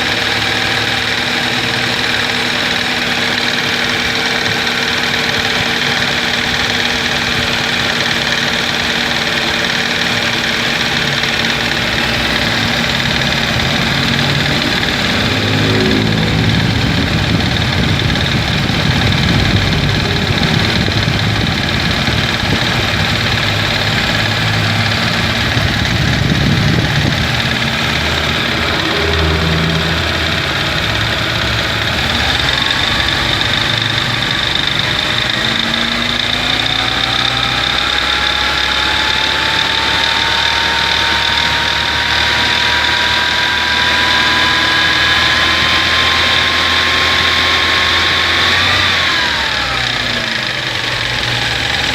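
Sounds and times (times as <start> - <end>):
car engine idling: 0.0 - 51.9
steady high whine: 0.0 - 51.9
whine rising in pitch: 0.0 - 51.9.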